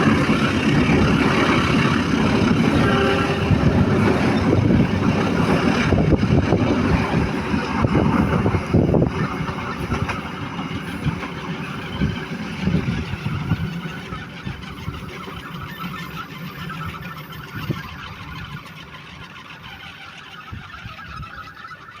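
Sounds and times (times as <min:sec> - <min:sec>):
train rumbling past: 0:00.0 - 0:21.6.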